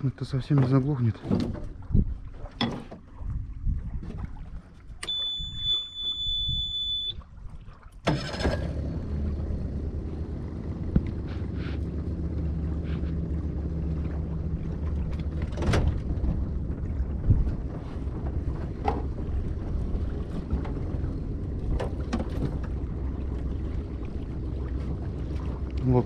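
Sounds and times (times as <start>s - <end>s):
outboard motor droning: 0.6s - 26.0s.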